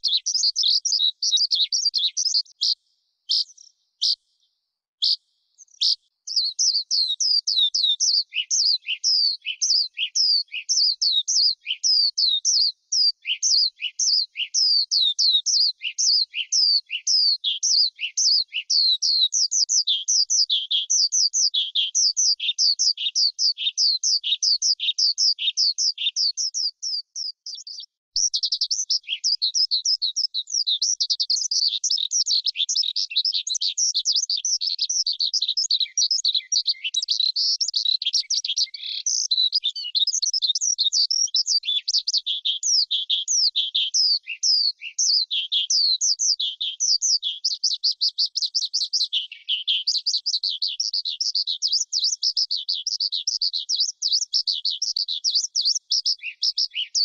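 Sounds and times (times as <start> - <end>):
lark singing: 0.0 - 4.3, 5.0 - 57.0.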